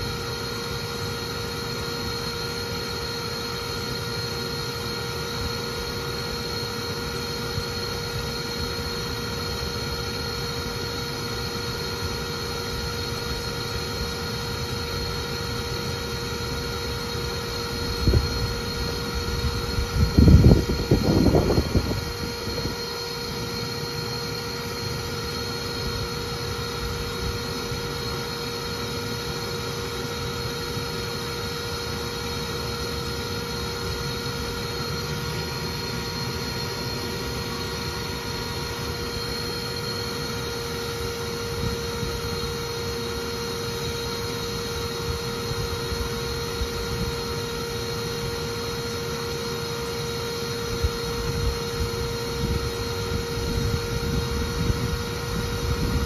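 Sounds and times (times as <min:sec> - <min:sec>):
vacuum motor whining: 0:01.5 - 0:56.0.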